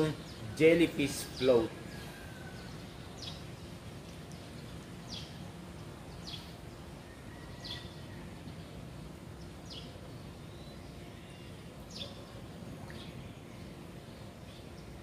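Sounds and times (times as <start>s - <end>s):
bird chirping: 0.0s - 15.0s
faint low background hum: 0.0s - 15.0s.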